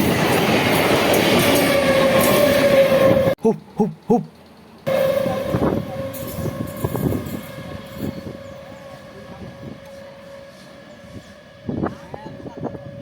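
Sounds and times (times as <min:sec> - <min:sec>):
electric train passing: 0:00.0 - 0:03.4, 0:04.3 - 0:13.0.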